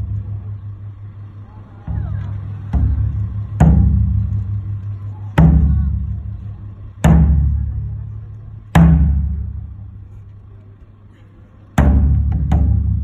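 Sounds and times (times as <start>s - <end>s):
large drum booming: 0.0s - 10.2s, 11.7s - 13.0s.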